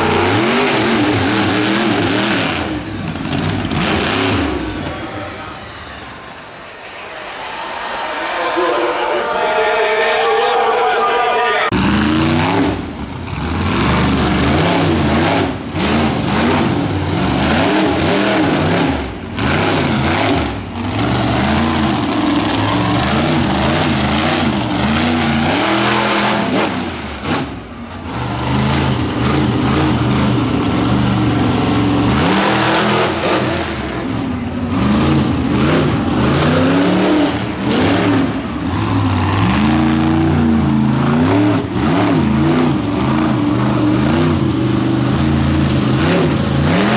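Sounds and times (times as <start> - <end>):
truck engine revving hard: 0.0 - 6.5, 11.7 - 46.9.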